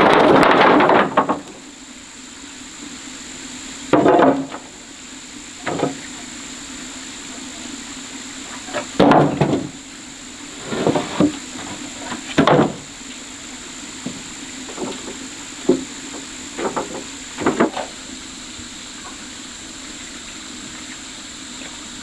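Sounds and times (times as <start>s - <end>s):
background hum: 0.0s - 22.0s.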